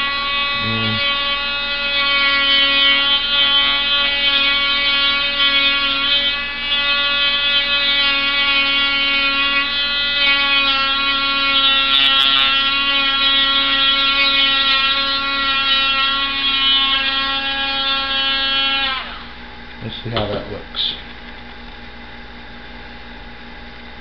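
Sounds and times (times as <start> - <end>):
rotary tool whining: 0.0 - 19.4.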